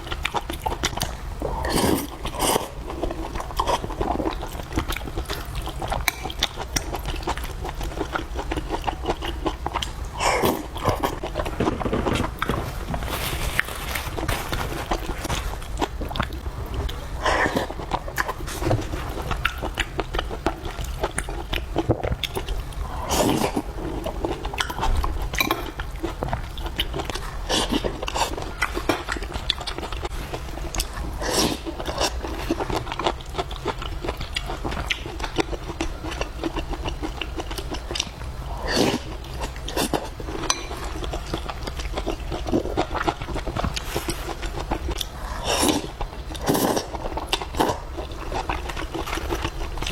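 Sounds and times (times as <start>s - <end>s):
person chewing food: 0.0s - 49.9s
steady low hum: 0.0s - 49.9s.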